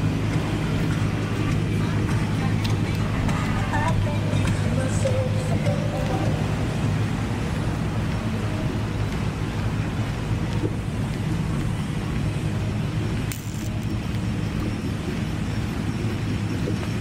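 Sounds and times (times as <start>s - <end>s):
engine low rumble: 0.0s - 17.0s.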